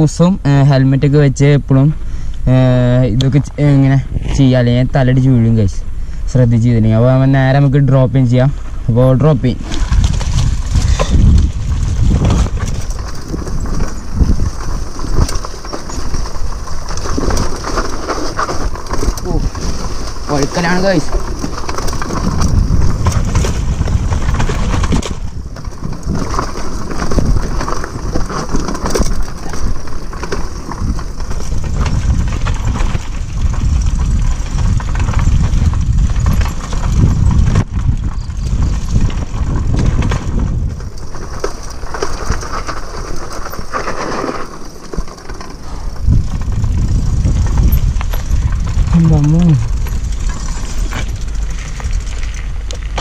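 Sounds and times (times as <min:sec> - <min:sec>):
bike tyre rumble: 0:00.0 - 0:53.0
wind buffeting microphone: 0:01.9 - 0:53.0
bike frame rattling: 0:08.6 - 0:53.0.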